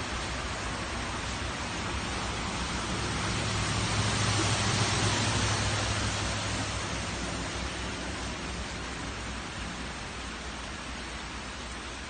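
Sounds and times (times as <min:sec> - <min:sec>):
floodwater rushing: 0:00.0 - 0:12.0
heavy rain hiss: 0:00.0 - 0:12.0.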